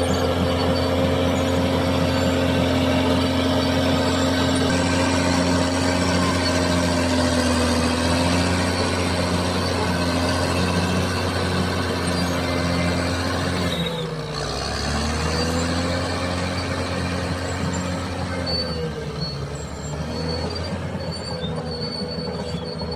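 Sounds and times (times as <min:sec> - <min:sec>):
bulldozer engine running: 0:00.0 - 0:22.9
wavering squeal: 0:00.0 - 0:22.9.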